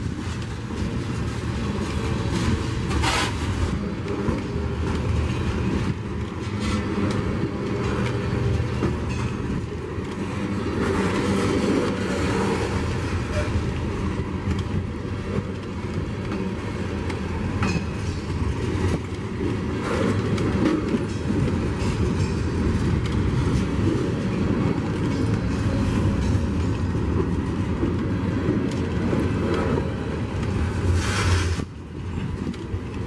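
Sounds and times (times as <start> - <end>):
freight train wheels clattering: 0.0 - 33.0.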